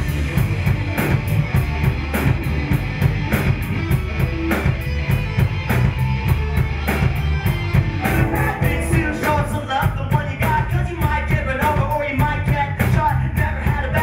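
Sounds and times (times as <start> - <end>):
bass: 0.0 - 14.0
drum kit: 0.0 - 14.0
guitar: 0.0 - 14.0.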